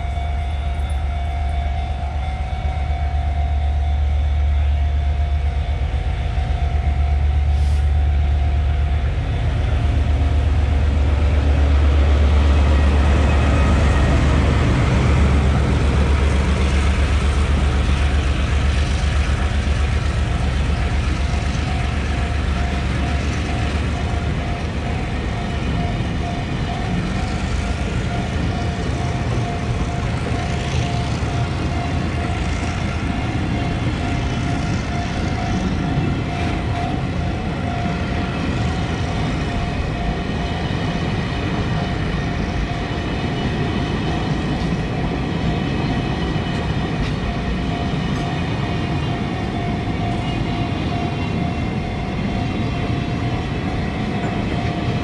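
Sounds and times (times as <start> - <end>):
locomotive engine drone: 0.0 - 55.0
steady whine: 0.0 - 55.0.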